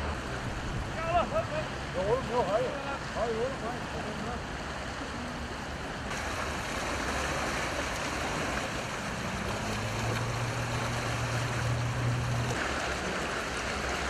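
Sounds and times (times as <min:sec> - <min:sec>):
waterfall and river rushing: 0:00.0 - 0:14.0.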